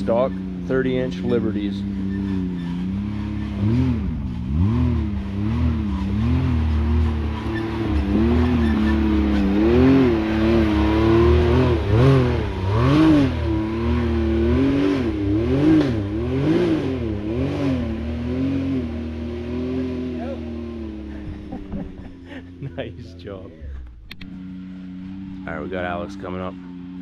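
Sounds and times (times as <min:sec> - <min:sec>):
utv engine revving: 0:00.0 - 0:27.0.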